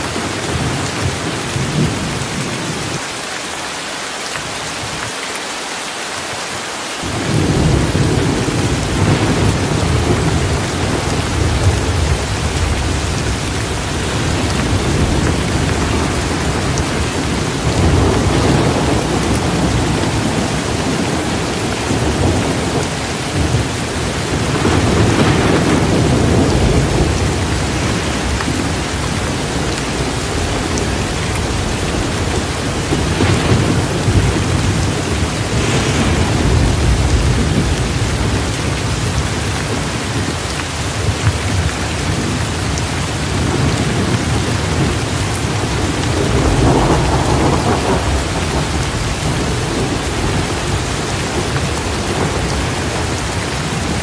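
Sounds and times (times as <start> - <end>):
steady rain: 0.0 - 54.0
low rolling thunder: 7.0 - 54.0.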